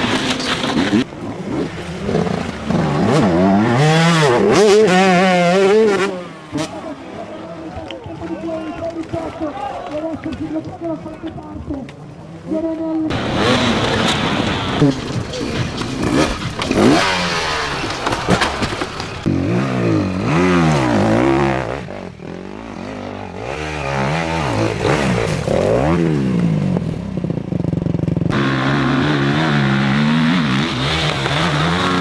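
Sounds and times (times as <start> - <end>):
dirt bike engine revving: 0.0 - 9.2, 13.1 - 32.0.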